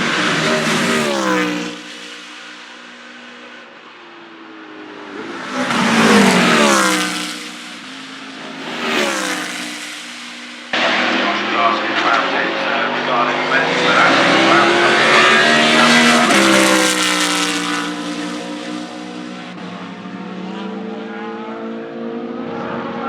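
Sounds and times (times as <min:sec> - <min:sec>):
race cars passing: 0:00.0 - 0:23.0.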